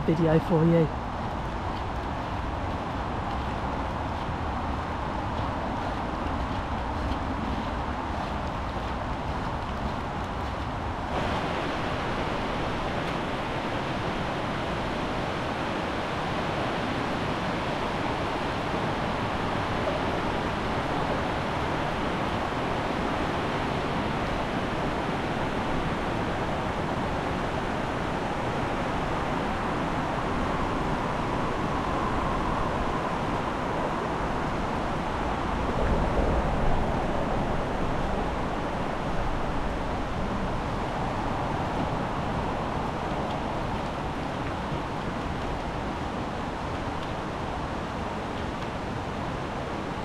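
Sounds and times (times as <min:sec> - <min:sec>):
rushing river water: 0:00.0 - 0:50.0.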